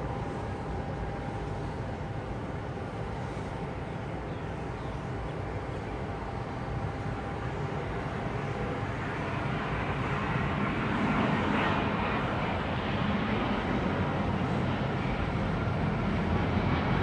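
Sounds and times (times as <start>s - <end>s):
jet airliner engines: 0.0s - 17.0s.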